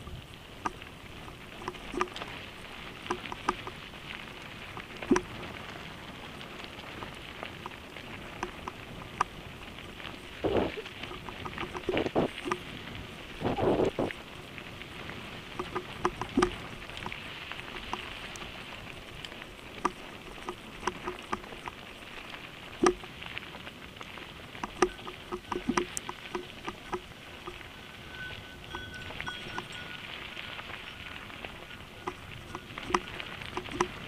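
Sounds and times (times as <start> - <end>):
bike tyres crunching on gravel: 0.0 - 34.0
clicks and rattles of stones: 0.0 - 34.0.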